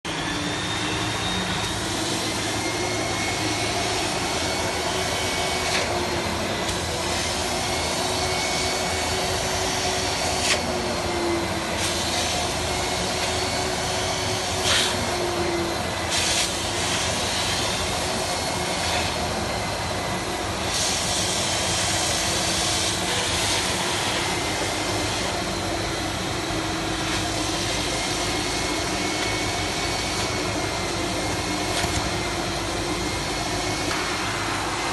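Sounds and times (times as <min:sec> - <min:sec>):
carpet extractor motor whine: 0:00.0 - 0:34.9.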